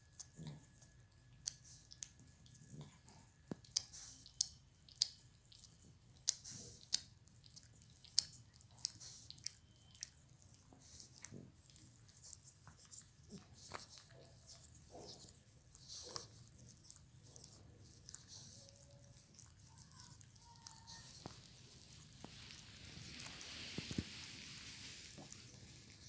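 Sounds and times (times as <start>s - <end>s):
dogs licking and lip-smacking: 0.0s - 26.0s.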